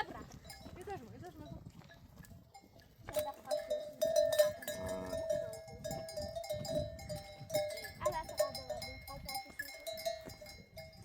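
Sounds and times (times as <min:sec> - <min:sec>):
livestock bells clanking: 0:00.0 - 0:11.0.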